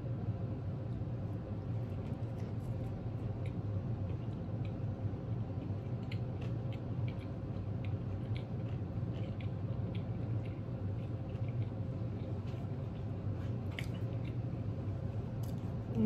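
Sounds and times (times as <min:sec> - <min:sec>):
steady low hum: 0:00.0 - 0:16.0
chewing with wet clicks: 0:01.6 - 0:15.8.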